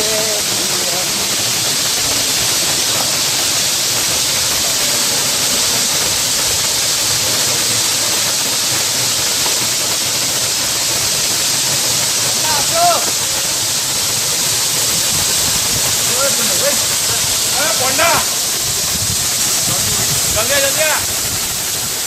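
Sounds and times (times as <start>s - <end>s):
waterfall rushing into a pool: 0.0s - 22.0s.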